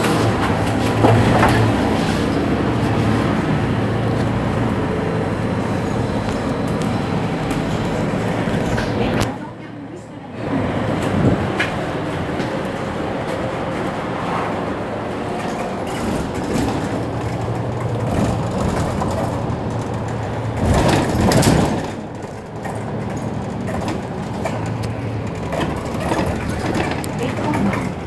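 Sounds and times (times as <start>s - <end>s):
bus engine humming: 0.0s - 28.0s.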